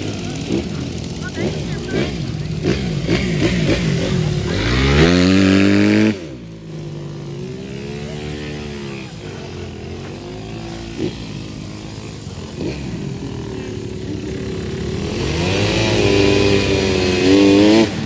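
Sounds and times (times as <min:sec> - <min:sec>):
quad engine revving: 0:00.0 - 0:18.0.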